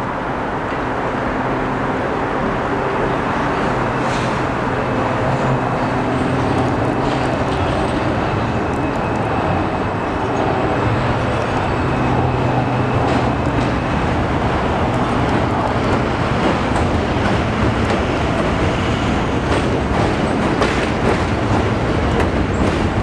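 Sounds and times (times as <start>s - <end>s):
train wheels and motors rumbling: 0.0s - 23.0s.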